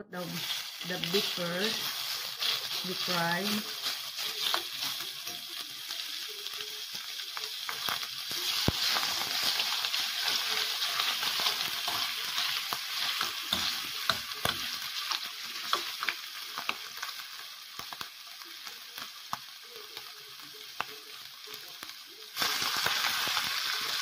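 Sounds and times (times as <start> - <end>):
beef sizzling in hot oil: 0.1 - 24.0.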